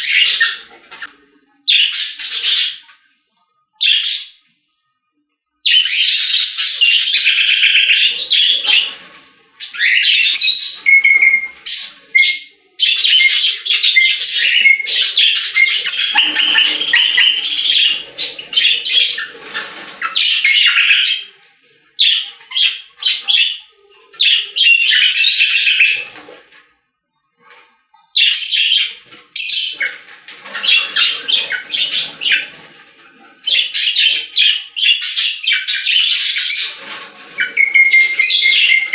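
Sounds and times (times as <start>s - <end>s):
small birds chirping: 0.0s - 4.5s, 5.6s - 26.5s, 28.1s - 38.9s.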